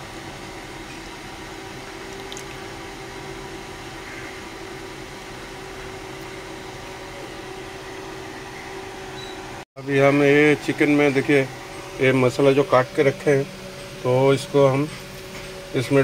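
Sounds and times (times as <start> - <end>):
steady hum with hiss: 0.0 - 16.0.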